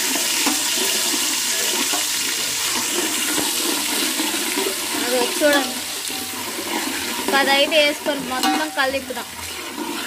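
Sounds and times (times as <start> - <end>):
metal spatula stirring: 0.0 - 10.0
paste sizzling in hot oil: 0.0 - 10.0.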